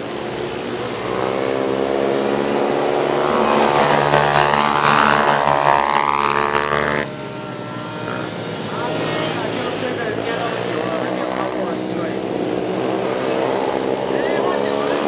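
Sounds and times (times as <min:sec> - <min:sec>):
quad engines revving hard: 0:00.0 - 0:15.0.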